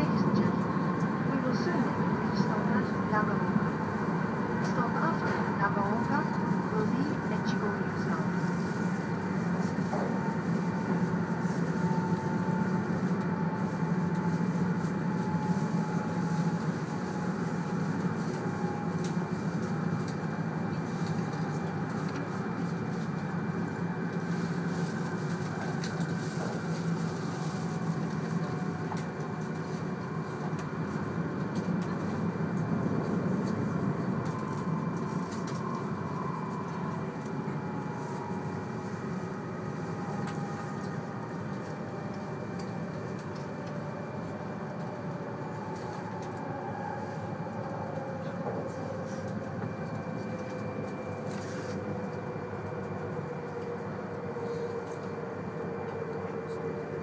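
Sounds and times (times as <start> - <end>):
train cabin rumble and rush: 0.0 - 57.0.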